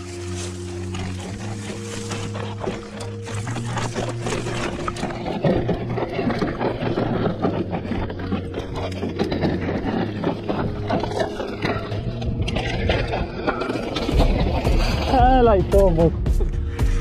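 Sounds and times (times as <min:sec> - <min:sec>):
tyres crunching over stones: 0:00.0 - 0:16.4
bike rattling: 0:00.0 - 0:17.0.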